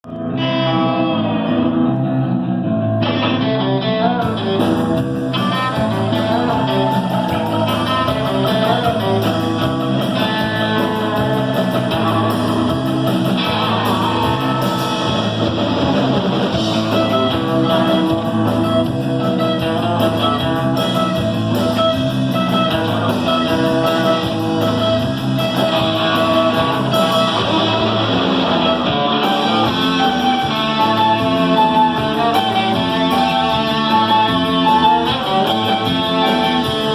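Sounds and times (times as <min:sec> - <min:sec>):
rock band playing live: 0:00.0 - 0:36.9.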